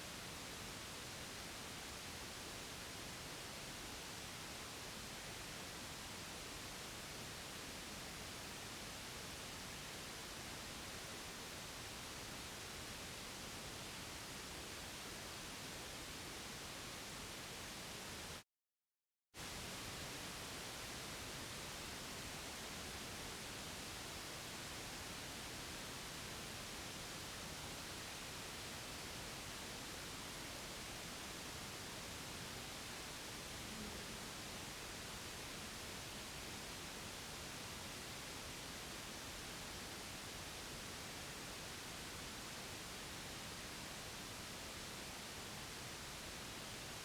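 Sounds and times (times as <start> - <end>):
white noise hiss: 0.0 - 18.4, 19.4 - 47.0.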